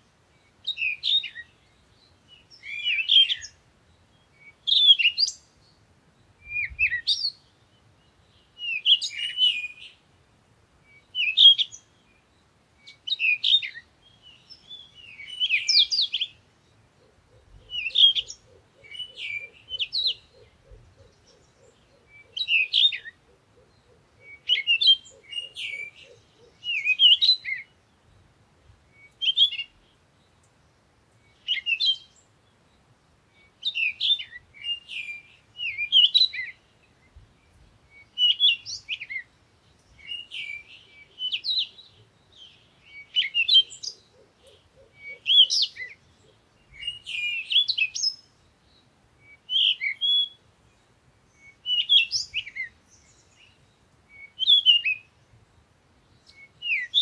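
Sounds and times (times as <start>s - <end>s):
small bird chirping: 0.0s - 10.0s, 10.9s - 57.0s.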